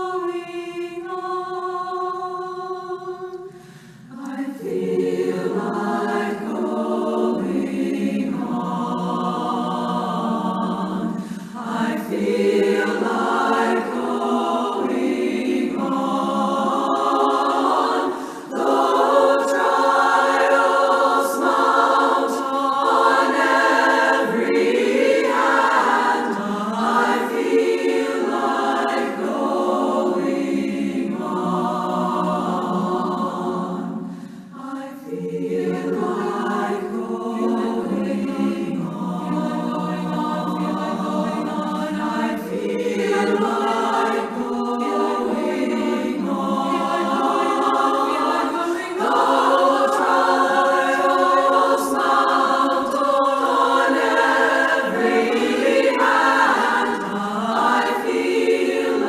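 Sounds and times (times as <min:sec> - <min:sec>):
women's choir singing gospel: 0:00.0 - 0:59.0.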